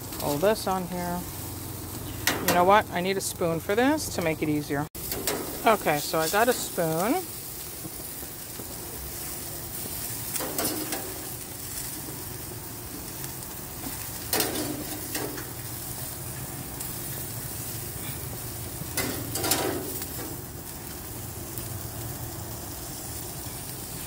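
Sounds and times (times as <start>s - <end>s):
food sizzling on a grill: 0.0s - 24.0s.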